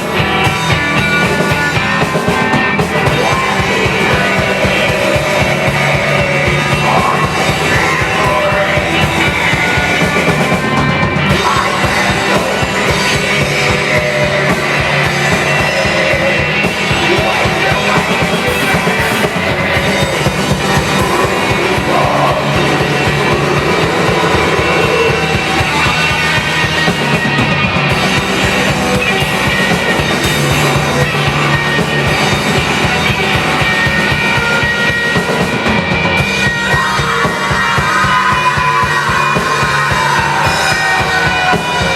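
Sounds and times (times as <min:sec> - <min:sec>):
distorted guitars: 0:00.0 - 0:41.9
fast driving drums: 0:00.0 - 0:41.9.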